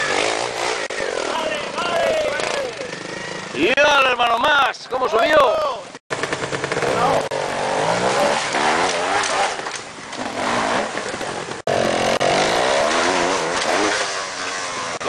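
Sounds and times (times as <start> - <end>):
motorcycle engines revving: 0.0 - 4.5, 5.8 - 15.0.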